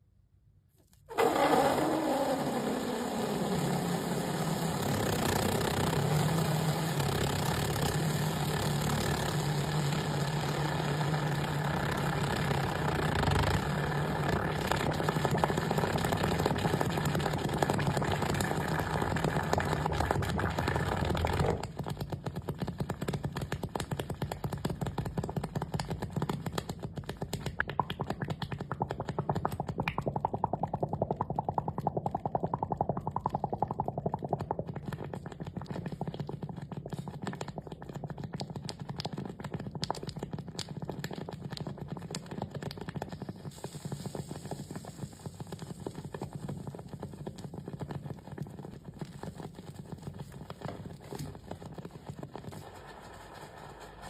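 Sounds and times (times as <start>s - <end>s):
fast irregular clatter of clicks: 3.6s - 54.0s.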